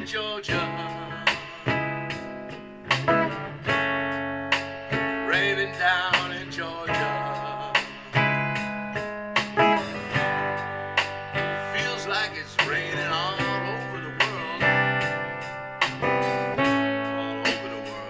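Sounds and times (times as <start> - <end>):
slow blues guitar: 0.0 - 18.0.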